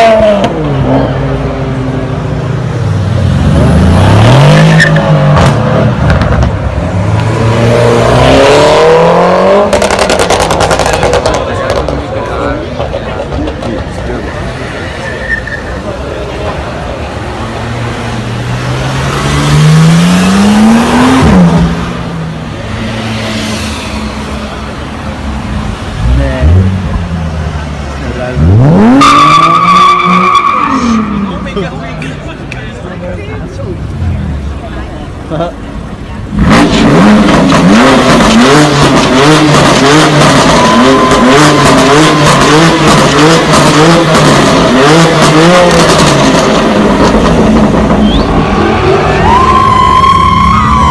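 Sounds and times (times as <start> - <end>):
car engine accelerating hard: 0.0 - 14.5, 16.0 - 32.0, 36.1 - 50.9.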